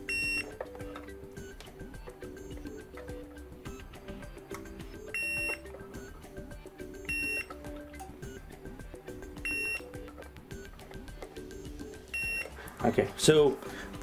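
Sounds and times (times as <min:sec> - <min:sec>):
multimeter beeps: 0:00.0 - 0:10.8, 0:11.4 - 0:12.6
background music: 0:00.0 - 0:14.0.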